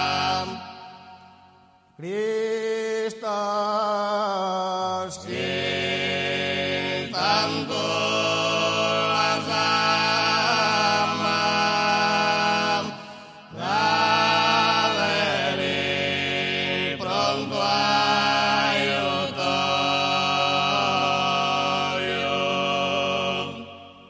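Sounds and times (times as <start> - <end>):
male choir singing in harmony: 0.0 - 24.0.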